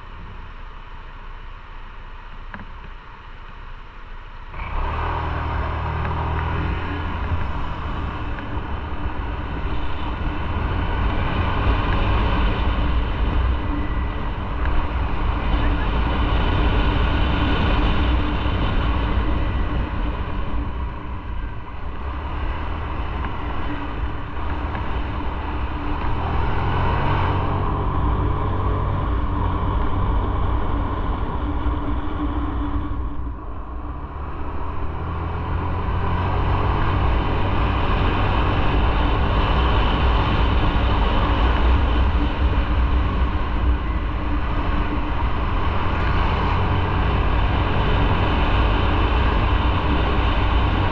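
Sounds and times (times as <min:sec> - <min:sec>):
motorcycle engine running: 0:00.0 - 0:50.9
steady rush of noise: 0:00.0 - 0:50.9.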